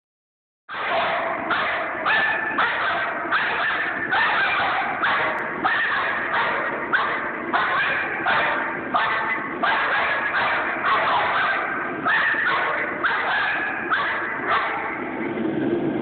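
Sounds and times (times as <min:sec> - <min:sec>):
dog barking: 0:00.7 - 0:15.2.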